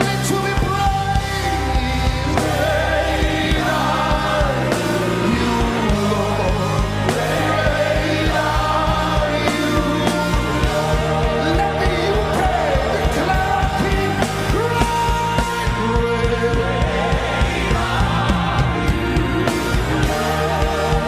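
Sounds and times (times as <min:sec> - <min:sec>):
singers and choir singing: 0:00.0 - 0:21.0
steady drum beat: 0:00.0 - 0:21.0
sustained keyboard chords: 0:00.0 - 0:21.0.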